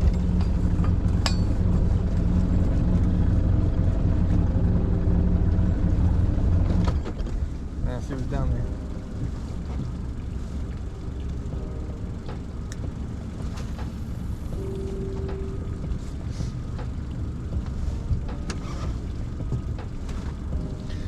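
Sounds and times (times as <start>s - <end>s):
boat low rumble: 0.0s - 21.0s.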